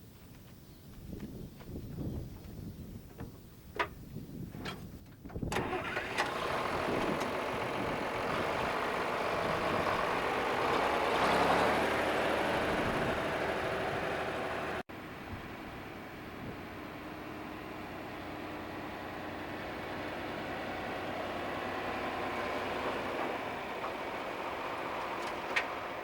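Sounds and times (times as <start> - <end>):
tractor engine starting and running: 4.5 - 26.0.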